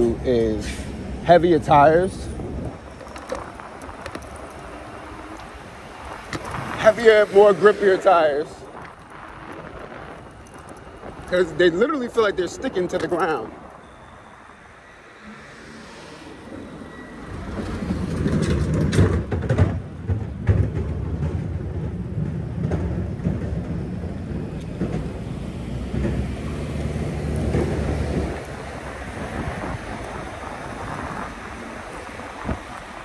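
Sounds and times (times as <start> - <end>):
tyres on pavement: 0.0 - 33.0
wind on microphone: 1.9 - 33.0.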